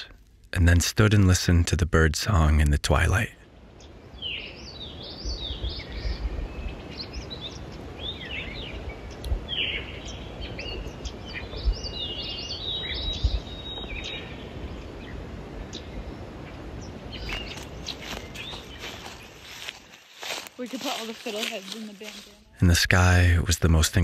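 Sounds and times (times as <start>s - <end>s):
songbirds singing and calling: 2.3s - 24.0s.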